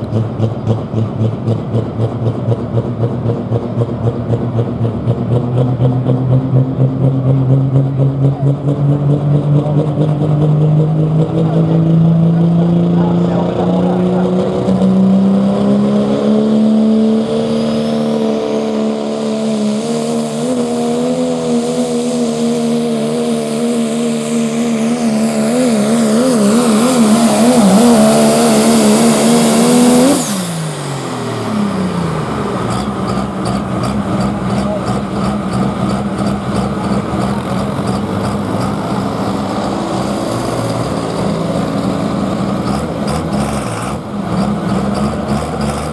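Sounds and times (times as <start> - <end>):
diesel truck engine at full throttle: 0.0 - 45.9.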